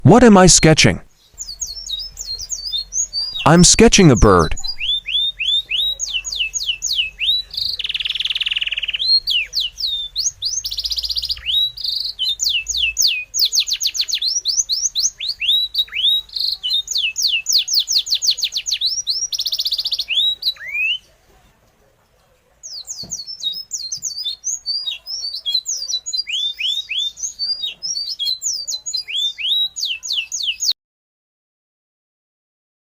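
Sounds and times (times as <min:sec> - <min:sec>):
songbird singing: 0:00.0 - 0:21.2, 0:22.2 - 0:30.8.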